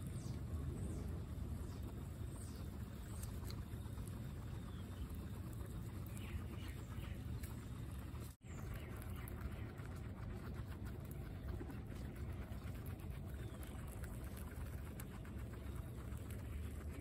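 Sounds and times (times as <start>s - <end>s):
guinea pigs chewing grass: 0.0s - 17.0s
low rumble: 0.0s - 17.0s.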